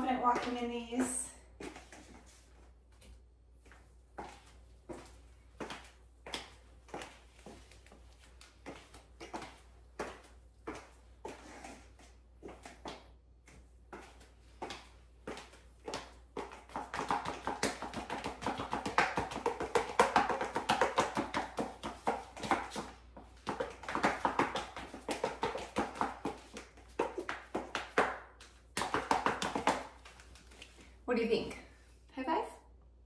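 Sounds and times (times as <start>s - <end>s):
high heels clicking on tile: 0.0s - 31.0s.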